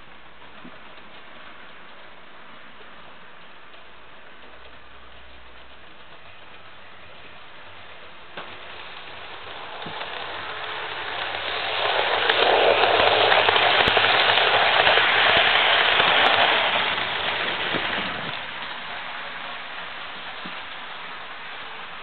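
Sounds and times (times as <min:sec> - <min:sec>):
model train wheels rattling on track: 0:00.6 - 0:22.0
model train motor hum: 0:00.8 - 0:22.0.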